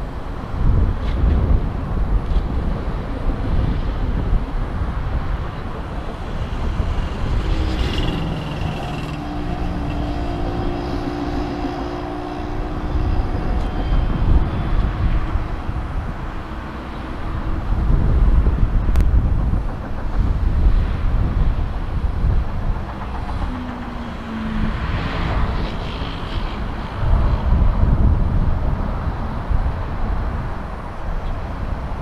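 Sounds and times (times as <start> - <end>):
wind on microphone: 0.0 - 32.0
jet engines running: 1.8 - 27.6.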